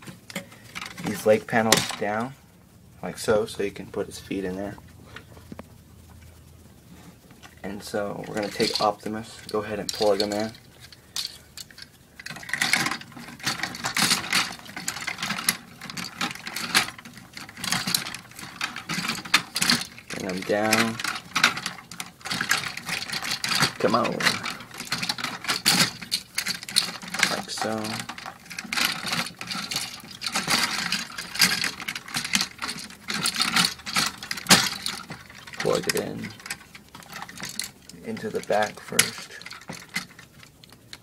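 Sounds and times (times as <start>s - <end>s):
plastic toy parts clicking and scraping: 0.0s - 2.3s, 7.2s - 41.0s.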